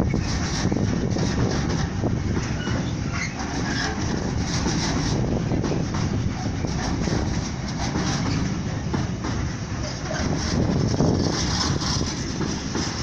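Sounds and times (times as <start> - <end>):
clatter over rail joints: 0.0 - 13.0
train wheels rumbling on rails: 0.0 - 13.0.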